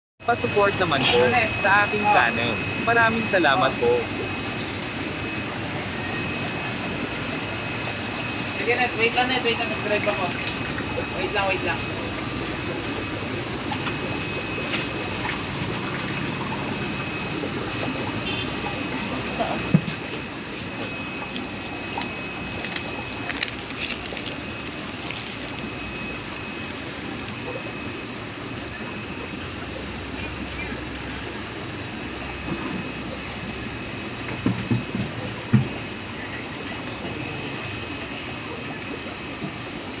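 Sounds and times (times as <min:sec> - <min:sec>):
aquarium aeration bubbling: 0:00.2 - 0:40.0
faint high whine: 0:00.2 - 0:40.0
low hum: 0:00.2 - 0:40.0.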